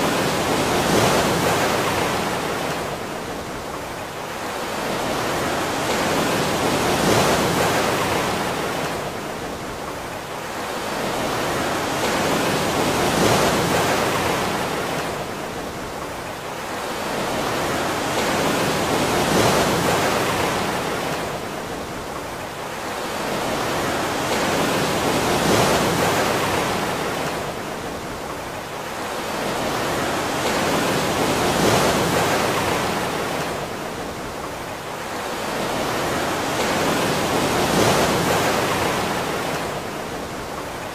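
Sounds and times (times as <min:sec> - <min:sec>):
rushing water like surf: 0:00.0 - 0:40.9.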